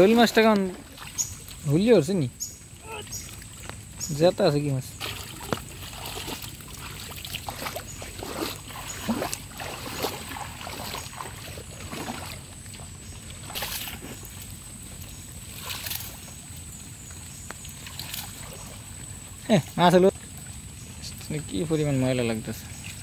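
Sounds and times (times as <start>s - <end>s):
muddy water splashing: 0.0s - 23.0s.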